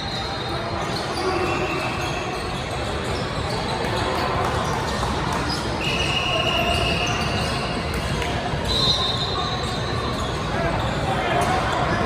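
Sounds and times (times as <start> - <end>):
spectators' voices: 0.0 - 12.0.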